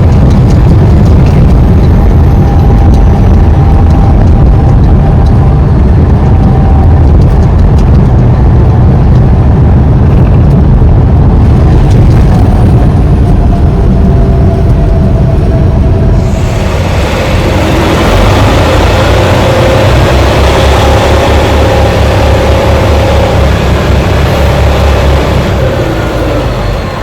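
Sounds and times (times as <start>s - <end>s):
road noise: 0.0s - 27.0s
truck engine rumbling: 0.0s - 27.0s.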